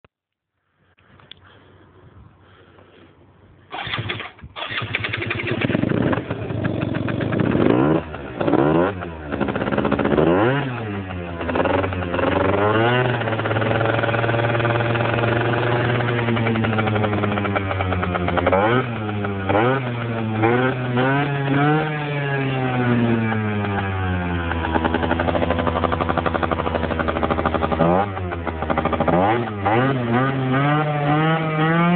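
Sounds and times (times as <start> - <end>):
scooter engine starting and revving: 3.7 - 31.9.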